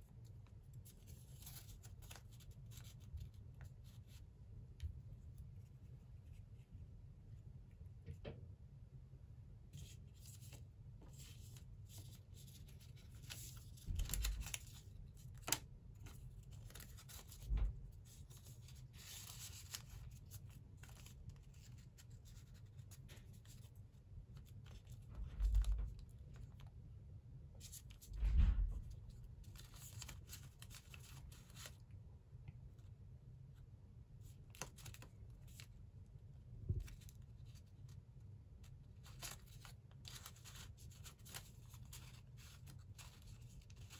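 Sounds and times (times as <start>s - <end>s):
paper rustling and crinkling: 0.2s - 6.6s, 9.7s - 26.8s, 27.6s - 32.0s, 34.2s - 43.9s.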